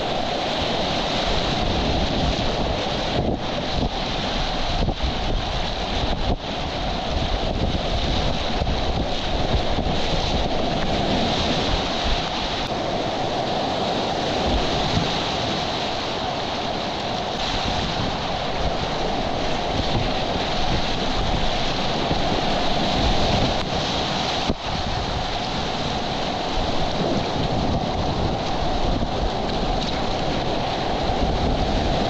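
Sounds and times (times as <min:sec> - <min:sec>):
whitewater rapids rushing: 0:00.0 - 0:32.0
wind buffeting microphone: 0:00.0 - 0:32.0.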